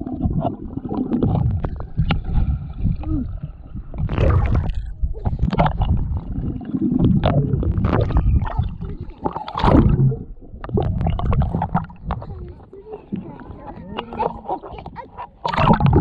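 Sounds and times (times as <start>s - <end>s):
underwater bubbles blowing: 0.0s - 16.0s
water gurgling and splashing: 0.0s - 16.0s.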